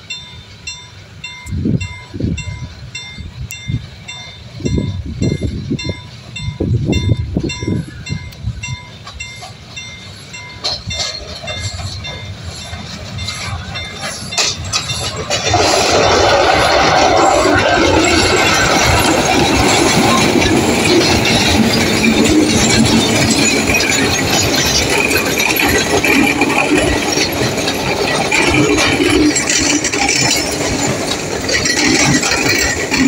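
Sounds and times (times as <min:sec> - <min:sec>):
steam hiss: 0:00.0 - 0:33.0
steam locomotive chuffs: 0:00.0 - 0:33.0.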